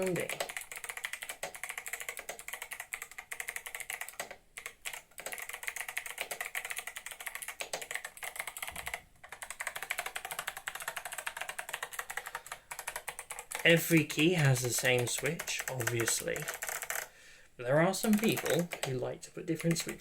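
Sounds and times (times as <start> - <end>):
clicky keyboard typing: 0.0 - 17.1, 17.9 - 20.0.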